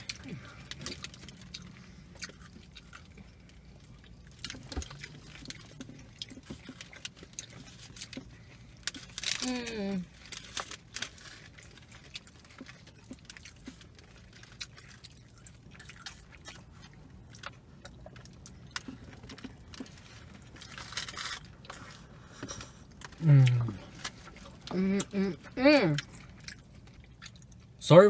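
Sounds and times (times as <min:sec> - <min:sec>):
chewing with wet mouth clicks: 0:00.0 - 0:09.4, 0:10.2 - 0:27.8.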